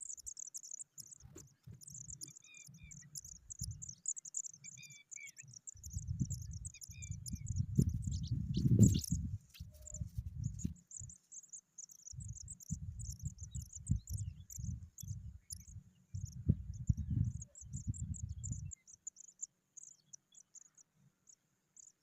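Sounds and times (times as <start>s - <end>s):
bird chirps: 0.0s - 22.0s.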